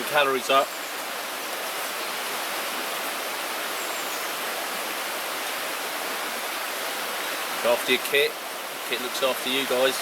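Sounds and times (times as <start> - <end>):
stream water flowing: 0.0 - 10.0.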